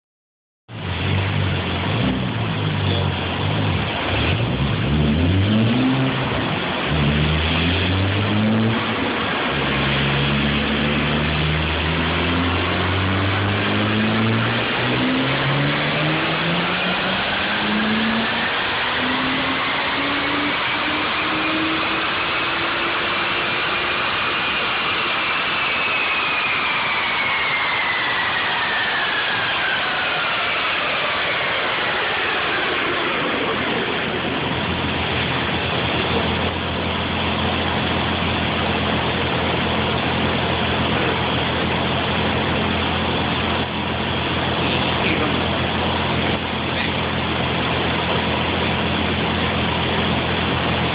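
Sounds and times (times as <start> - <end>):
car engine revving at full throttle: 0.7 - 50.9
high whine rising and falling: 0.7 - 50.9.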